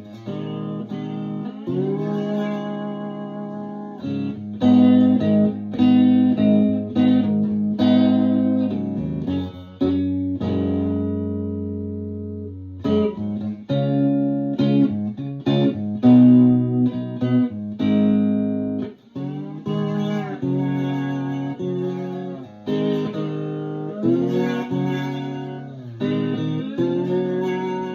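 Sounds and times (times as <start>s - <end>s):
slide electric guitar arpeggios: 0.0s - 27.9s.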